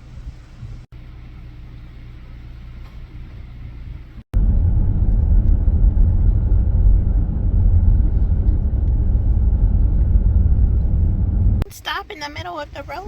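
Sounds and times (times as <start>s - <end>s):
minivan cabin rumble: 0.0s - 11.7s.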